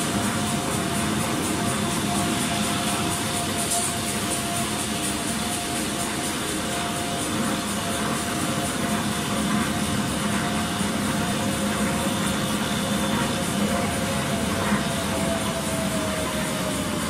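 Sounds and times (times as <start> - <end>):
machine drone with whine: 0.0 - 17.0.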